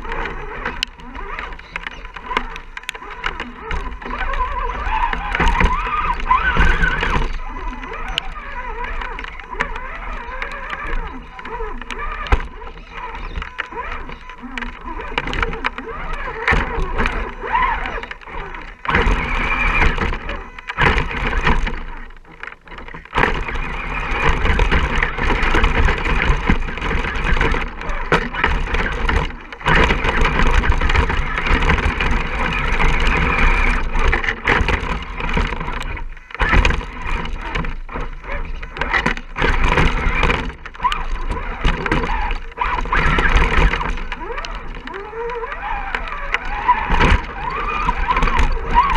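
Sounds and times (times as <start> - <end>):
electric motor and gears whining: 0.0 - 48.9.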